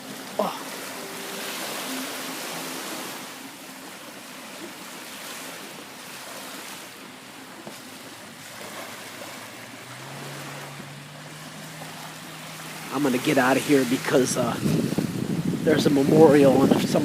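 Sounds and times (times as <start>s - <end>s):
waves washing at shoreline: 0.0s - 17.0s.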